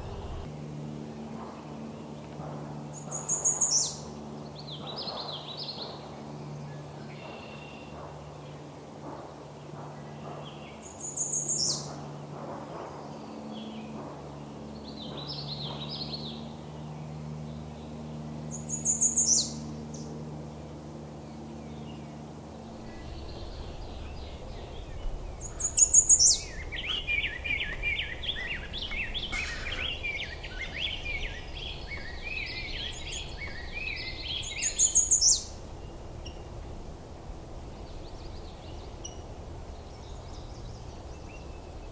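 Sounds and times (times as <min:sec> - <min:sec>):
songbirds singing: 0:00.0 - 0:00.5, 0:01.6 - 0:41.9
low steady drone: 0:00.0 - 0:41.9.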